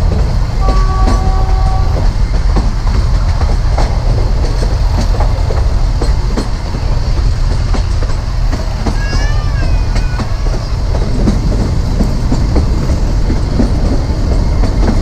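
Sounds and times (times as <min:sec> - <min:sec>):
train rumbling on track: 0:00.0 - 0:15.0
wheels clacking over rail joints: 0:00.0 - 0:15.0.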